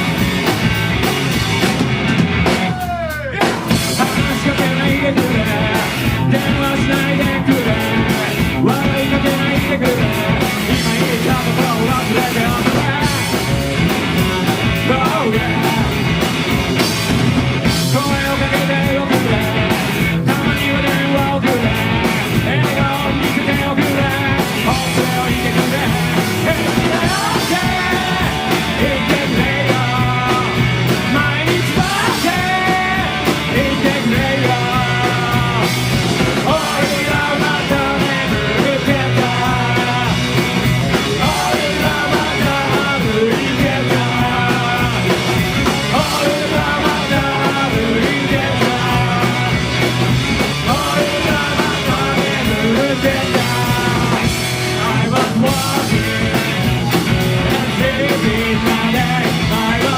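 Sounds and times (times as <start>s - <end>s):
bass guitar: 0.0s - 59.9s
distorted electric guitars: 0.0s - 59.9s
drums: 0.0s - 59.9s
person singing: 2.5s - 16.1s, 17.7s - 59.9s.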